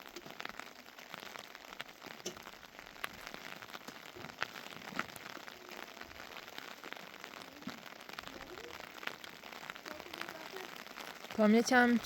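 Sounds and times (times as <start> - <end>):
heavy rain falling: 0.0 - 12.0
raindrops striking as sharp ticks: 0.0 - 12.0.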